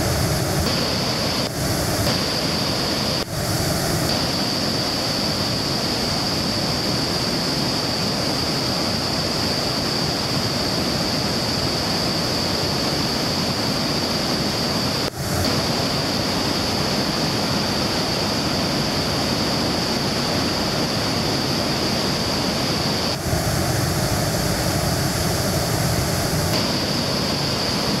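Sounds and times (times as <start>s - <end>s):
high hiss: 0.0s - 28.0s
waterfall rushing: 0.0s - 28.0s.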